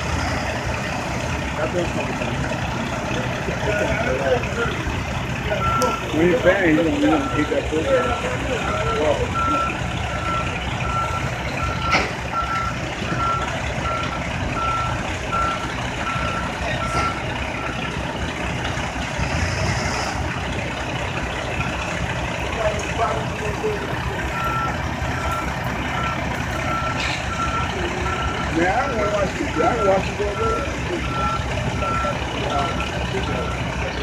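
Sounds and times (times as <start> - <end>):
truck reversing alarm beeping: 0.0 - 19.3, 20.0 - 34.0
truck engines running: 0.0 - 34.0.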